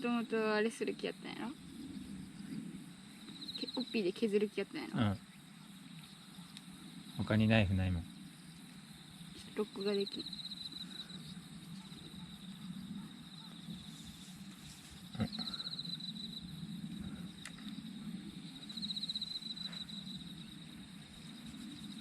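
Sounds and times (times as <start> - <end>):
insect trilling: 0.0 - 22.0.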